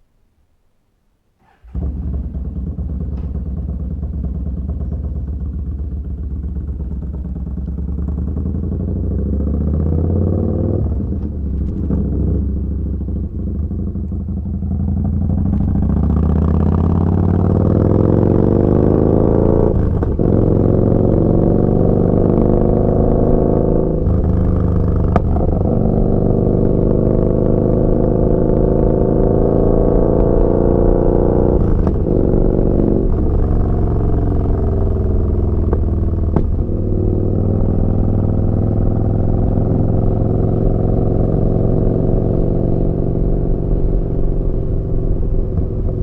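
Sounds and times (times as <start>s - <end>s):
motorcycle engine revving: 1.4s - 46.0s.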